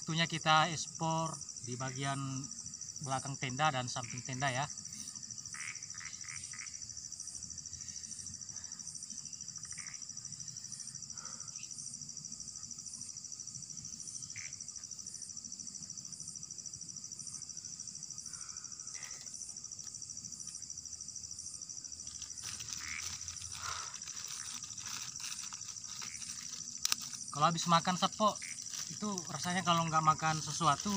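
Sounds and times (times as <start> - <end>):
night insects trilling: 0.0 - 30.9.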